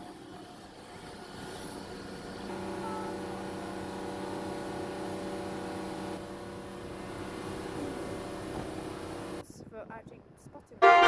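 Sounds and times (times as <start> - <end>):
train diesel engine humming: 0.0 - 9.4.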